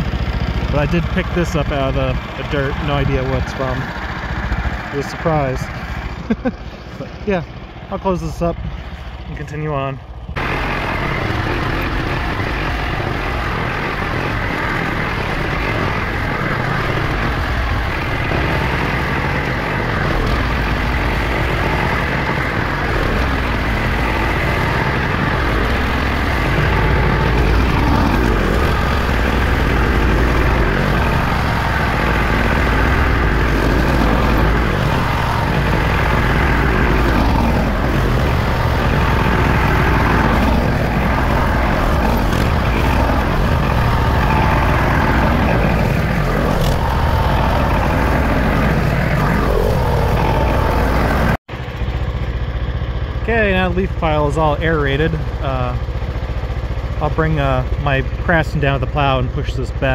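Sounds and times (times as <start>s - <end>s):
tiller churning leaves: 0.0s - 9.5s, 10.4s - 59.9s
garden tractor engine running: 0.0s - 59.9s.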